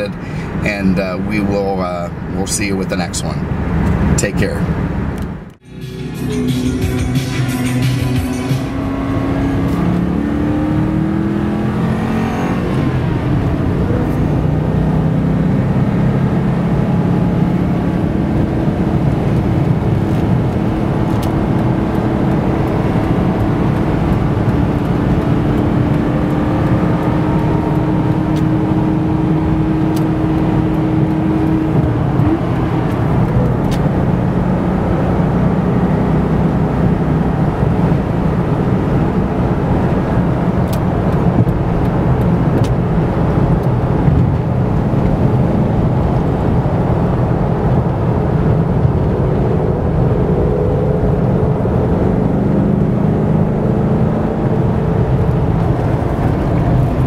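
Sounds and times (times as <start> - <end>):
car engine revving and cruising: 0.0 - 57.0
tyre and road noise: 0.0 - 57.0.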